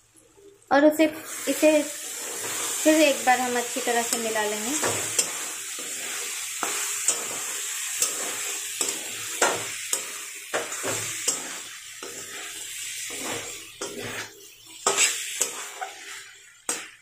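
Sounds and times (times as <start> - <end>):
chickpeas sizzling in oil: 0.0 - 17.0
metal spatula scraping metal pan: 1.2 - 17.0.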